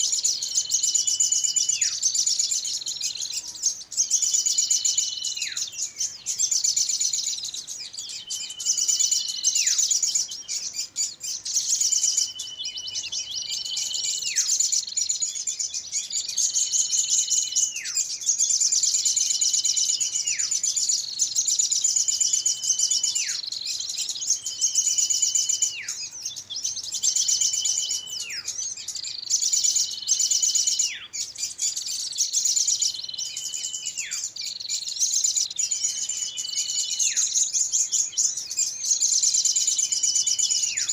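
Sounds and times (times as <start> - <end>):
rapid high bird chatter: 0.0 - 40.9.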